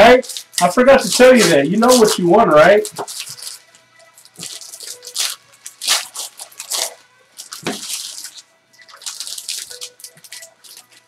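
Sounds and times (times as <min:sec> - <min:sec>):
crinkling of pack wrappers: 0:00.0 - 0:11.0.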